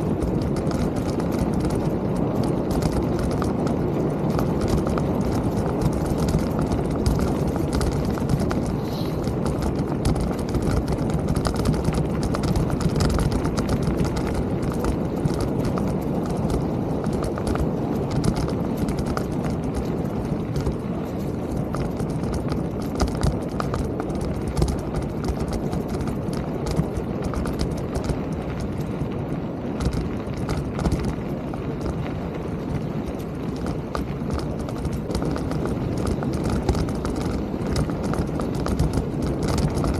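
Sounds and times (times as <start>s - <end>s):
bike rattling over bumps: 0.0s - 39.9s
bike tyres rumbling on trail: 0.0s - 39.9s.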